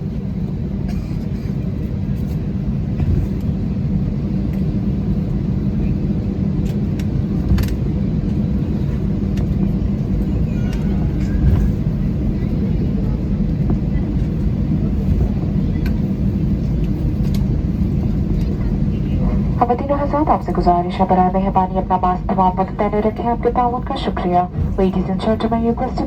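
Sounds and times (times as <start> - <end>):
aircraft engines idling rumble: 0.0 - 26.0.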